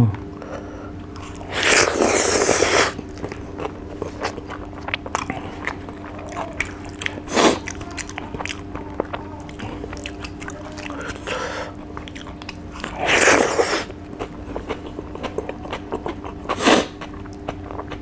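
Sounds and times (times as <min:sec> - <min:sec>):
faint steady hum: 0:00.0 - 0:18.0
person chewing: 0:01.0 - 0:18.0.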